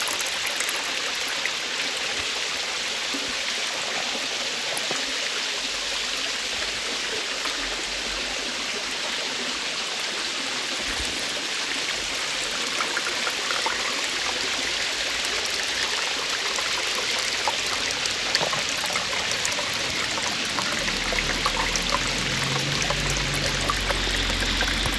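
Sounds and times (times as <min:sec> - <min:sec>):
waterfall splashing: 0:00.0 - 0:24.9.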